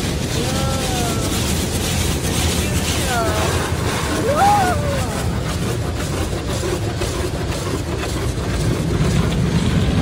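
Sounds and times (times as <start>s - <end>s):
low rumble: 0.0s - 10.0s
water jets spraying on car: 0.0s - 10.0s.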